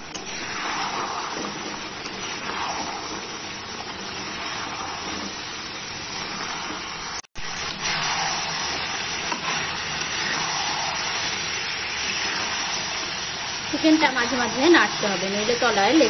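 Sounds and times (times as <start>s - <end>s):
chicken sizzling in a pan: 0.0s - 16.0s
metal spatula stirring: 0.1s - 16.0s.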